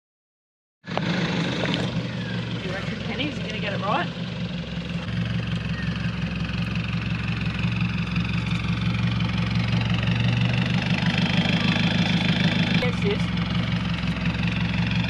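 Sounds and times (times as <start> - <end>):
engine idling at low revs: 0.9 - 15.0.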